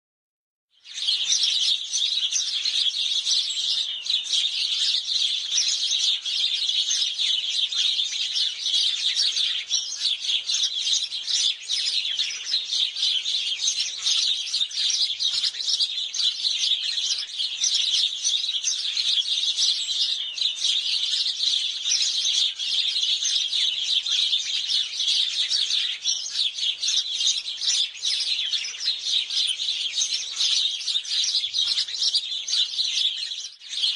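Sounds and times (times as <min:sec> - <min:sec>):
sparrows chirping: 0:00.8 - 0:33.9.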